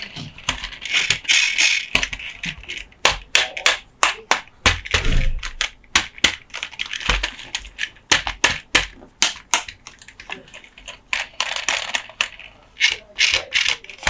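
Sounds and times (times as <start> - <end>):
scratching on toy trucks: 0.0 - 14.0
tapping on toy trucks: 0.0 - 14.0.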